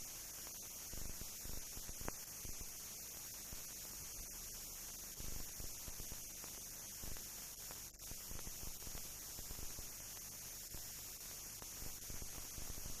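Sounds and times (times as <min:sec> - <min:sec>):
faint crackles: 0:00.0 - 0:13.0
film hiss and low hum: 0:00.0 - 0:13.0.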